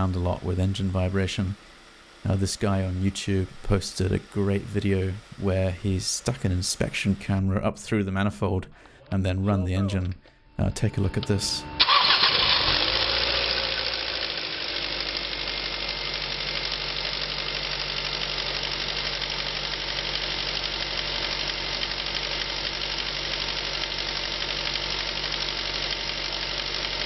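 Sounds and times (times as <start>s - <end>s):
car engine idling: 0.0s - 7.4s, 11.0s - 27.0s.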